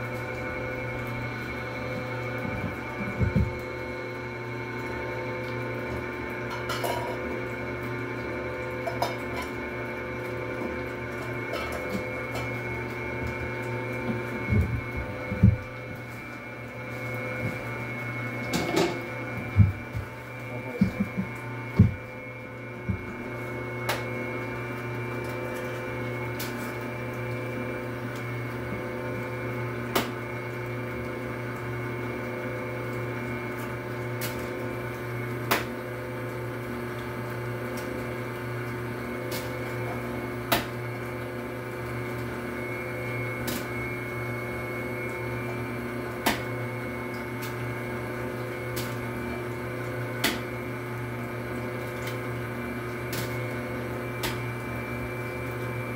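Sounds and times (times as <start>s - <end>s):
electric mixer humming: 0.0s - 55.9s.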